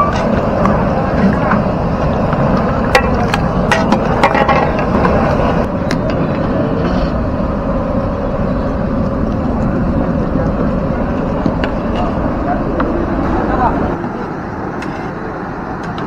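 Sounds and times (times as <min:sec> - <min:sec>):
gas burner roaring: 0:00.0 - 0:16.0.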